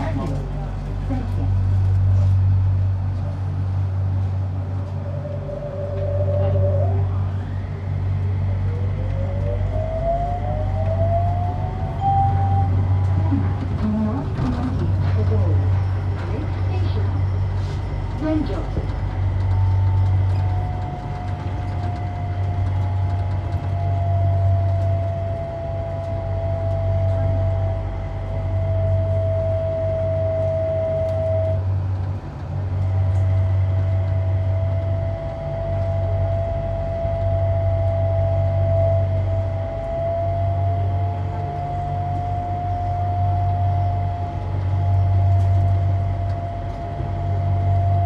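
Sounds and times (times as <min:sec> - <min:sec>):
low rumble of running gear: 0:00.0 - 0:48.0
train motor whine: 0:01.7 - 0:48.0.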